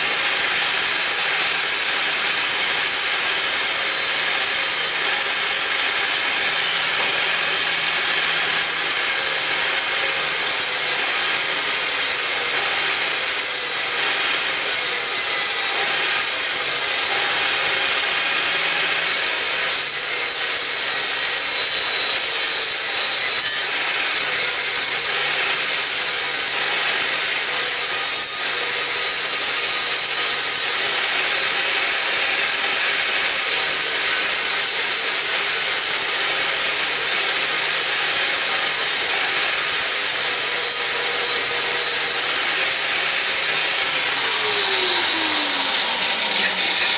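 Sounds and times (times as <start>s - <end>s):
angle grinder grinding metal: 0.0s - 46.9s.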